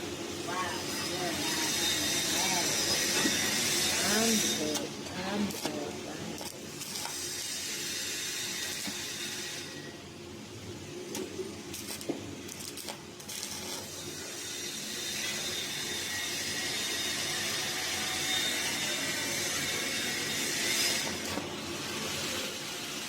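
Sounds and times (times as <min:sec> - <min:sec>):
hissing metalworking noise: 0:00.0 - 0:23.0.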